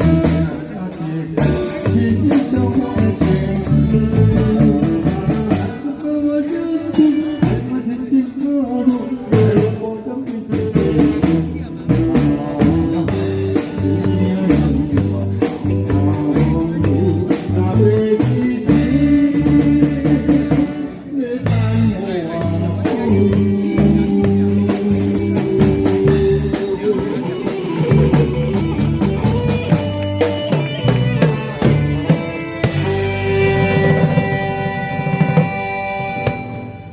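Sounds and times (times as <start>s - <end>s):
band playing a song: 0.0s - 36.9s
drum kit beat: 0.0s - 36.9s.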